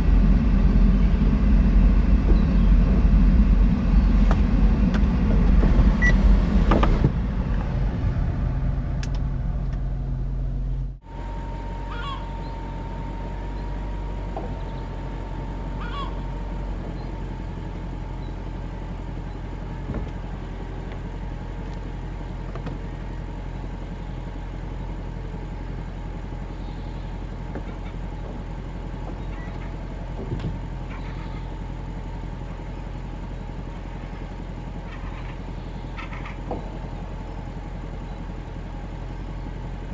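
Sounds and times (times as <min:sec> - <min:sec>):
car roof motor whining: 0:00.0 - 0:39.9
low hum: 0:00.0 - 0:39.9.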